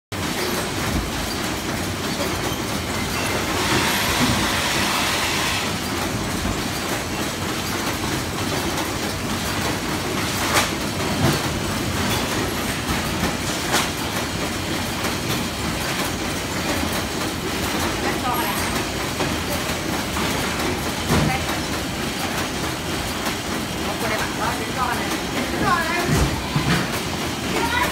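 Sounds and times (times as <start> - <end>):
packing machine clattering: 0.2 - 5.1, 5.7 - 27.9.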